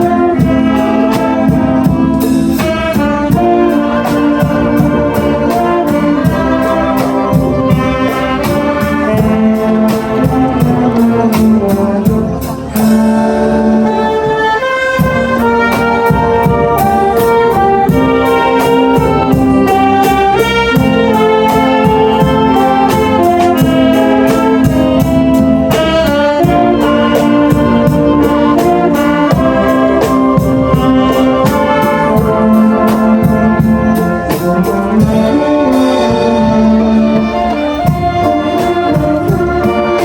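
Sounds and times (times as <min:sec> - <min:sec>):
percussion beat: 0:00.0 - 0:40.0
wind band playing: 0:00.0 - 0:40.0.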